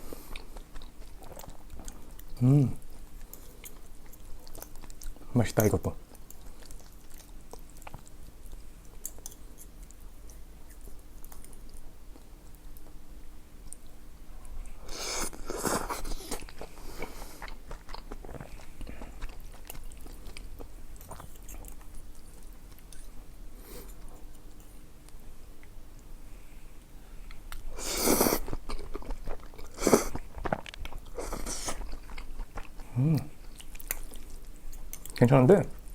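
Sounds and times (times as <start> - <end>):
person chewing food: 0.0 - 13.0, 13.6 - 26.1, 26.8 - 35.2.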